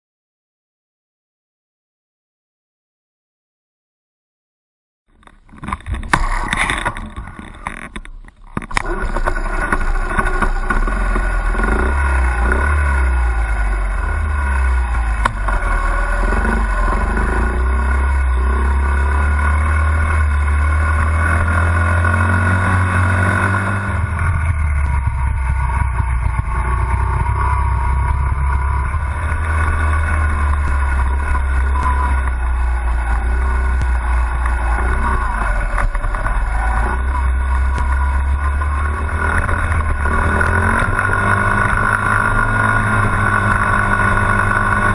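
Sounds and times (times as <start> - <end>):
dirt bike engine revving: 8.8 - 44.9.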